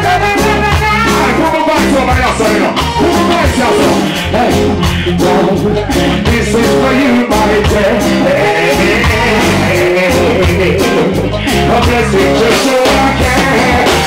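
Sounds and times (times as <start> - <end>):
man singing into a microphone: 0.0 - 14.0
reggae band playing: 0.0 - 14.0.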